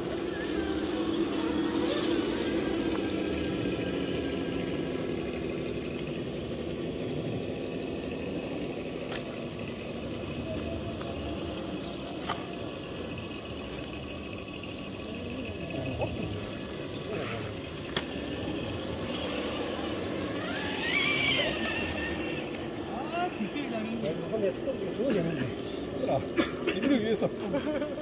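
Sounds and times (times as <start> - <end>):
electric motor and gears whirring: 0.0 - 28.0.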